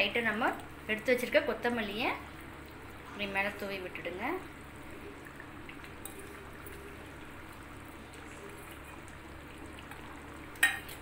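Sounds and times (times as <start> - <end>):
faint steady hiss of simmering gravy: 0.0 - 11.0.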